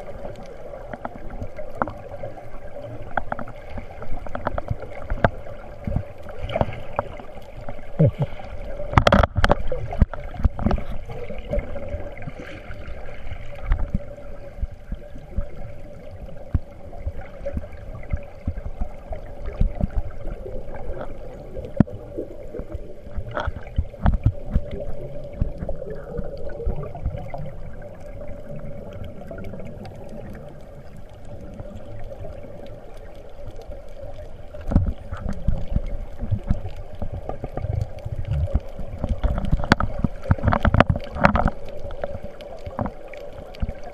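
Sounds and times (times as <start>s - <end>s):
water rushing and bubbling underwater: 0.0s - 43.9s.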